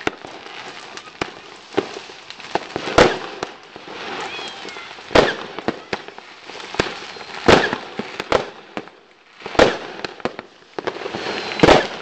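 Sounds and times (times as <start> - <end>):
fireworks cracks and pops: 0.0 - 12.0
fireworks loud bangs: 0.0 - 12.0.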